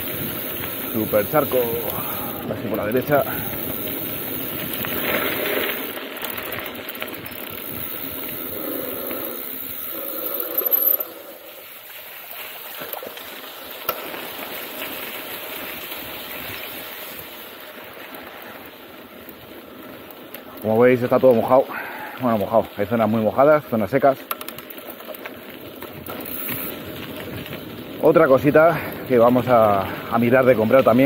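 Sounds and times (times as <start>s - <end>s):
bike tyres rolling through mud: 0.0s - 31.0s.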